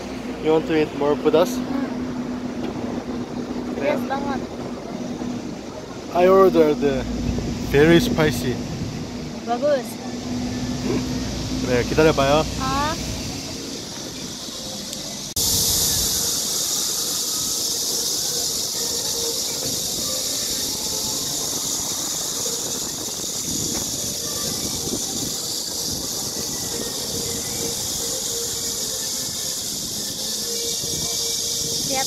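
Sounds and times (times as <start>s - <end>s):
high-pitched hiss: 0.0s - 32.0s.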